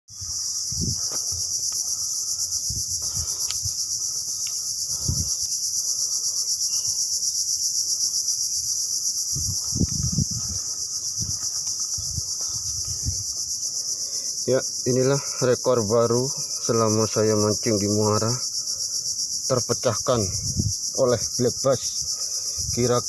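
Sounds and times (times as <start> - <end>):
high-pitched insect chorus: 0.1 - 23.0.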